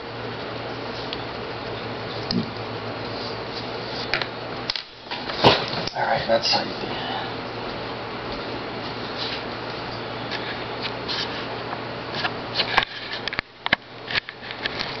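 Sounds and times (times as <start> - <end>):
background hiss with low hum: 0.0 - 15.0.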